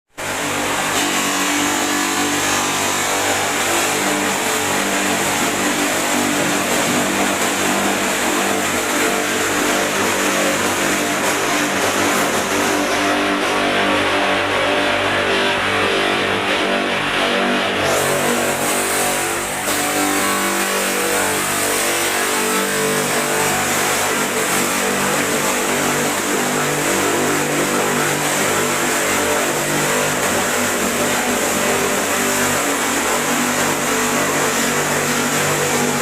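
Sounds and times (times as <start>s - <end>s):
polishing machine motor hum: 0.2s - 36.0s.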